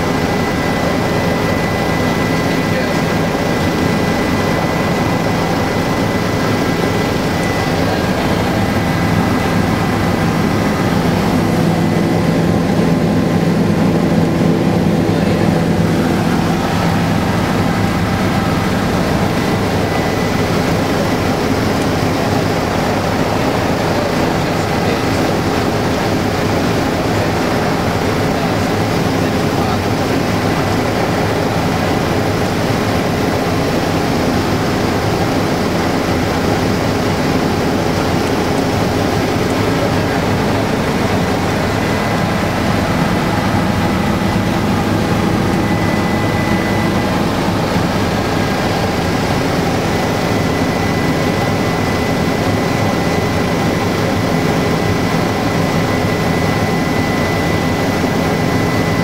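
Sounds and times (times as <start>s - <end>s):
helicopter engine and rotor drone: 0.0s - 59.0s
high steady whine: 0.0s - 59.0s.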